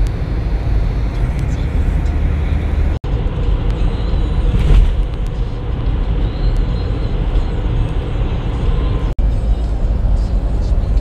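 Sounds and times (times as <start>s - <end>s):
car road and tyre noise: 0.0s - 11.0s.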